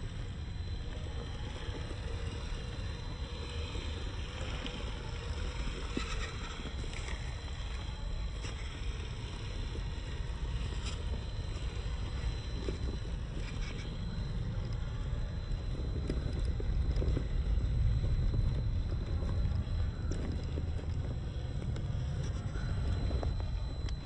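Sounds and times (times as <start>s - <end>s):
toy truck motor rumbling: 0.0s - 24.0s.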